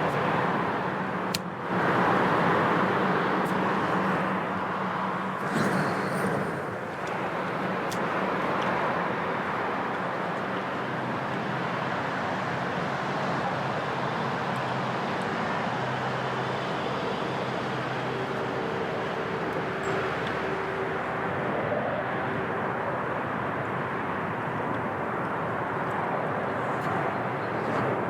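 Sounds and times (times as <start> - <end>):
engine rumble with low hum: 0.0 - 28.0.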